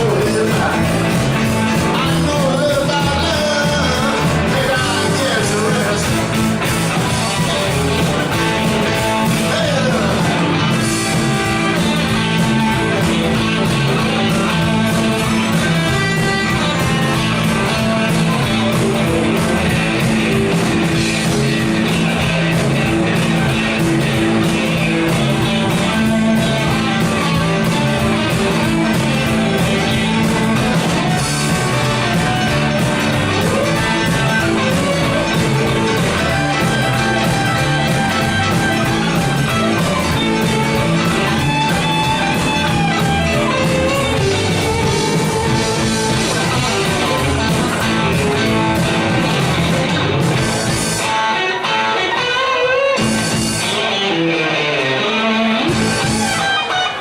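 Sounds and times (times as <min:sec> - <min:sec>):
electric guitar: 0:00.0 - 0:57.0
live rock band playing: 0:00.0 - 0:57.0.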